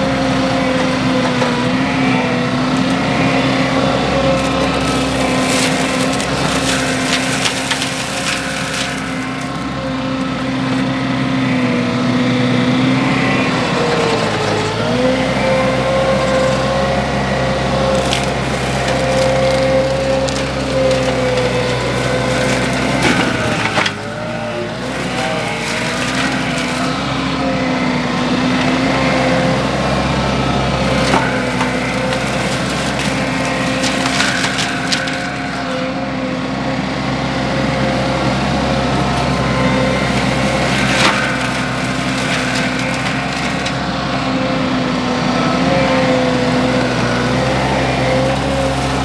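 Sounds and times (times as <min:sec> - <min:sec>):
forestry mulcher grinding wood: 0:00.0 - 0:49.0
machine engine running: 0:00.0 - 0:49.0
wood splintering and snapping: 0:00.1 - 0:49.0.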